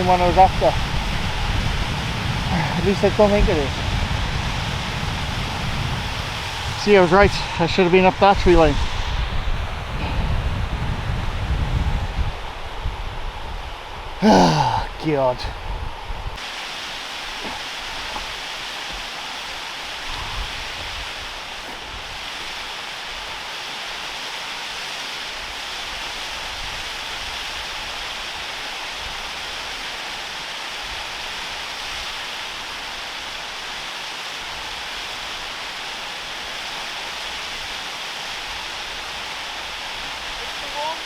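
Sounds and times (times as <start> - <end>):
waterfall rushing: 0.0 - 10.3, 14.2 - 15.5, 16.4 - 41.0.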